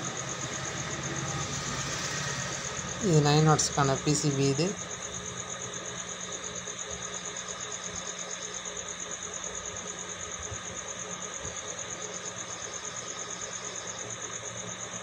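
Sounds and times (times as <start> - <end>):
pulsing machine hum: 0.0 - 15.0.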